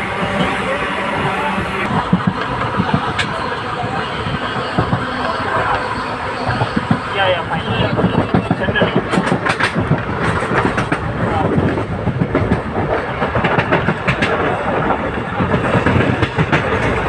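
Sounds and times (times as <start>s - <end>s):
train rumbling on track: 0.0s - 17.0s
wheels clacking over rail joints: 1.9s - 17.0s.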